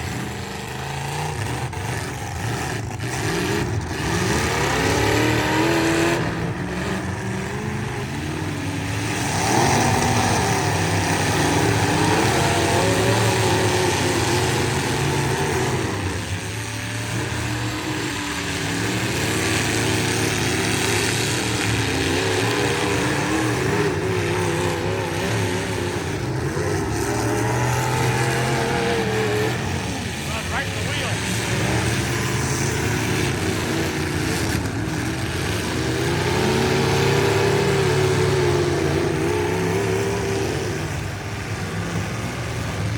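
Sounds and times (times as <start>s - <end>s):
truck engines revving: 0.0s - 42.9s.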